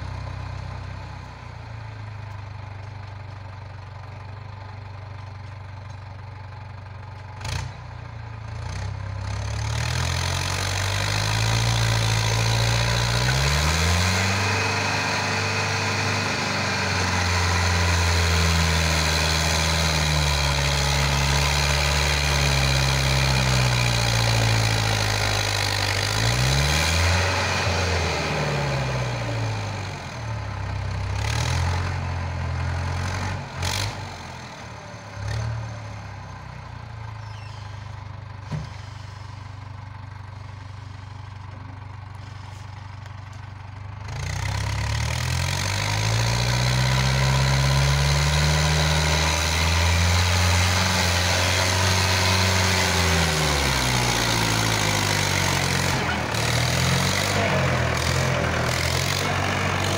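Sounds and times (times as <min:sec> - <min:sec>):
tractor engine revving: 0:06.8 - 0:59.9.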